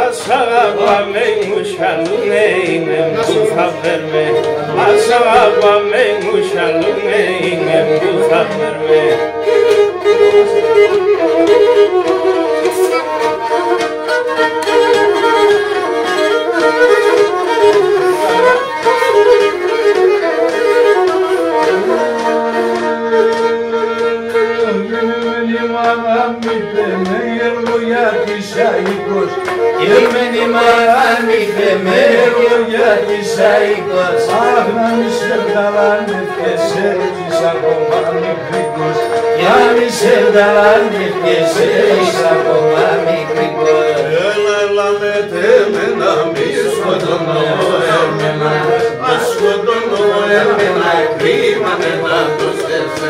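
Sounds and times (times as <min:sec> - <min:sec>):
bowed lyra folk melody: 0:00.0 - 0:53.0.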